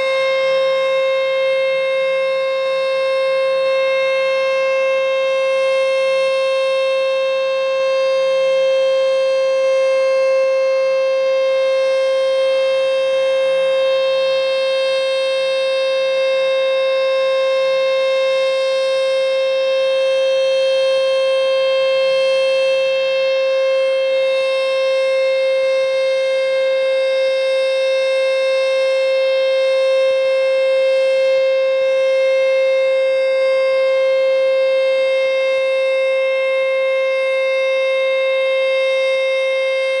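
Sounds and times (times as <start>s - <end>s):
tornado siren steady tone: 0.0s - 40.0s.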